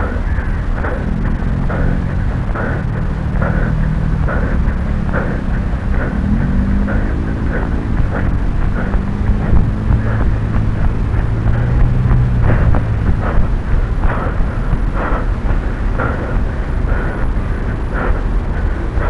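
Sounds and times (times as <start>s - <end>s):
low steady hum: 0.0s - 19.0s
wind buffeting microphone: 0.0s - 19.0s.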